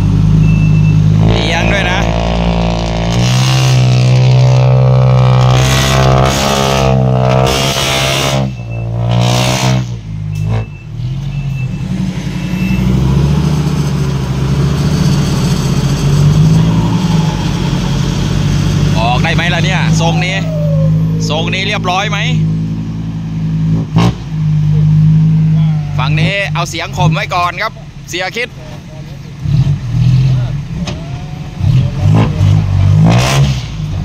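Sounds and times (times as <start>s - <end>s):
diesel truck engine revving: 0.0s - 34.0s.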